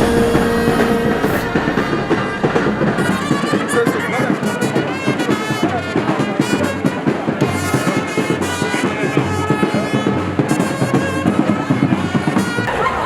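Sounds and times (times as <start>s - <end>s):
steady drum beat: 0.0s - 12.7s
brass instruments: 0.0s - 13.0s.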